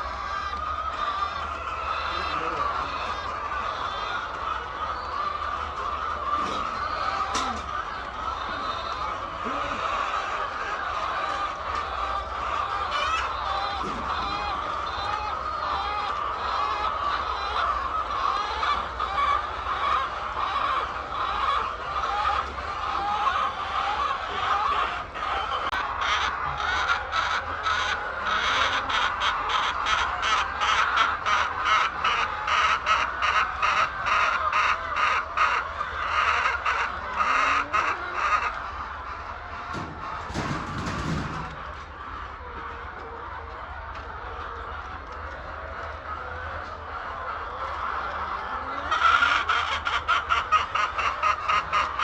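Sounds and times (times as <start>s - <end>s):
chickens clucking and squawking: 0.0s - 52.0s.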